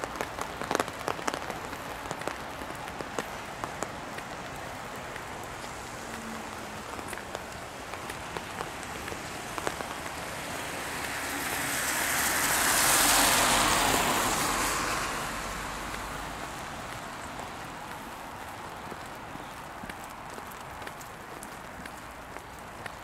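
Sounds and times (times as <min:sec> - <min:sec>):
car tyres hissing on wet road: 0:00.0 - 0:23.0
rain pattering: 0:00.0 - 0:23.0.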